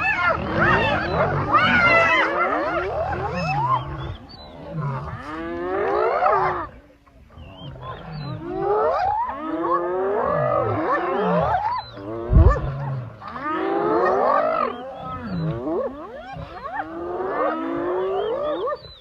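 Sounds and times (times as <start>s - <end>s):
hyenas squealing and giggling: 0.0s - 6.7s, 7.4s - 19.0s
low growls: 0.0s - 18.4s.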